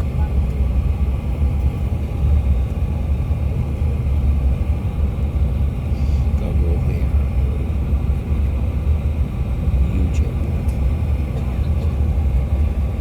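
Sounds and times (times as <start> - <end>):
jet cabin low rumble: 0.0 - 13.0.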